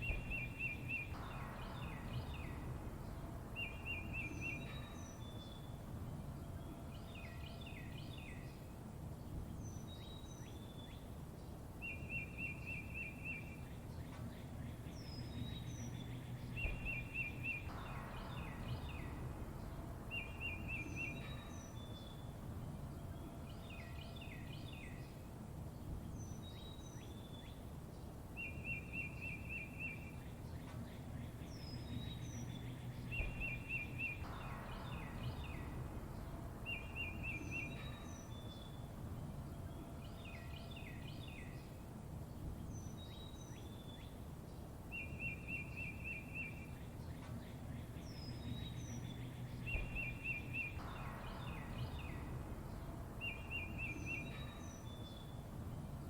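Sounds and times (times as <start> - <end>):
low background rumble: 0.0 - 56.0
songbirds chirping and trilling: 0.0 - 56.0.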